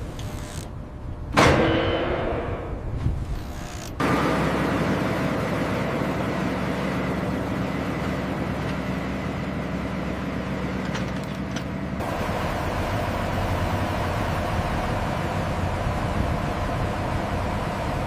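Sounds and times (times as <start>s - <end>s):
engine drone: 1.4s - 18.0s.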